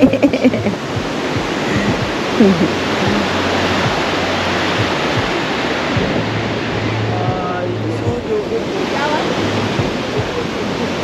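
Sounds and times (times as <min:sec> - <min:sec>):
faint voices: 0:00.0 - 0:11.0
ocean waves breaking: 0:00.0 - 0:11.0.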